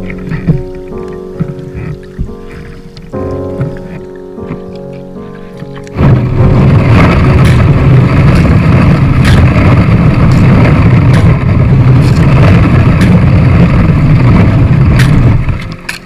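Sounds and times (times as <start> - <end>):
kayak hull grinding through ice: 0.0 - 16.0.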